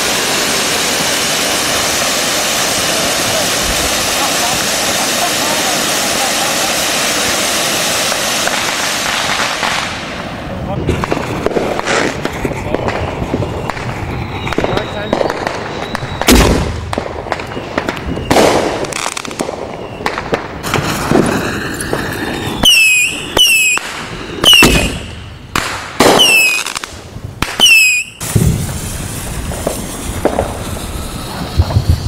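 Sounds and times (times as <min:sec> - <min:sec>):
fireworks bangs: 0:00.0 - 0:32.0
whistling firework shots: 0:00.0 - 0:32.0.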